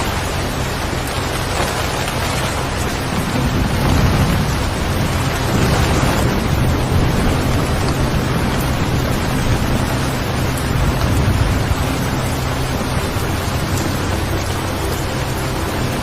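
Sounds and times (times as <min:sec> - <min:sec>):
heavy rain: 0:00.0 - 0:16.0
low rumble: 0:00.0 - 0:16.0.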